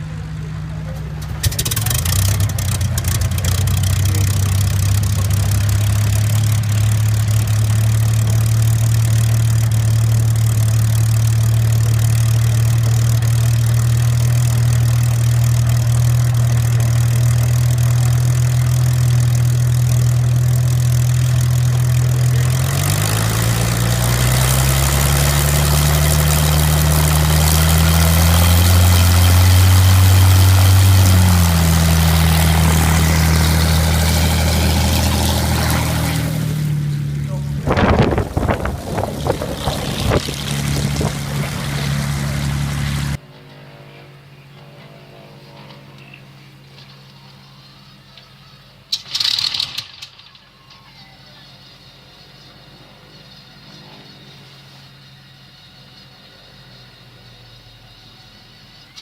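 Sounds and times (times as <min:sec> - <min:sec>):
aero engine idling and revving: 0:00.0 - 0:50.2, 0:51.4 - 0:59.0.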